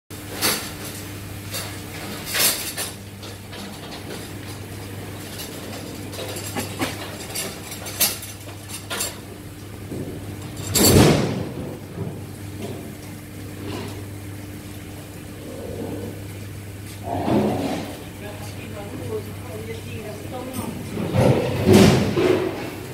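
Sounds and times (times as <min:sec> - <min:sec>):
steady low hum: 0:00.2 - 0:22.9.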